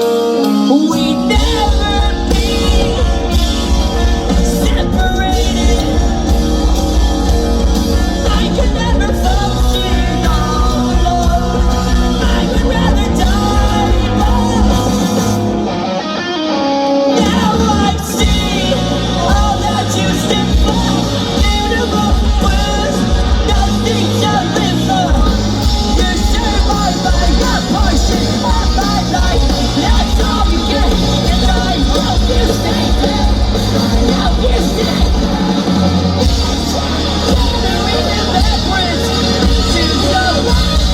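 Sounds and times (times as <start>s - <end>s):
bass guitar: 0.0s - 40.9s
distorted guitars: 0.0s - 40.9s
drums: 0.0s - 40.9s
person singing and yelling: 0.0s - 40.9s.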